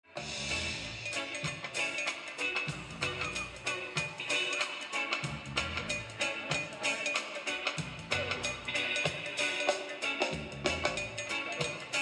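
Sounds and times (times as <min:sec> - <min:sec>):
instrumental reggae dub music: 0:00.0 - 0:12.0.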